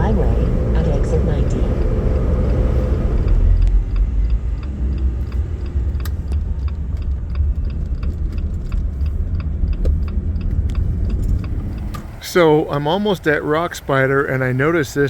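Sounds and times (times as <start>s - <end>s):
road and drivetrain rumble: 0.0s - 15.0s
turn signal ticking: 0.0s - 15.0s.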